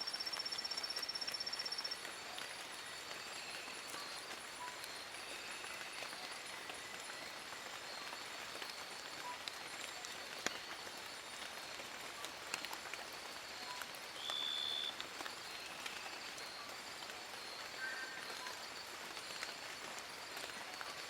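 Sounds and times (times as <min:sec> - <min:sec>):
rain falling on leaves: 0:00.0 - 0:21.0.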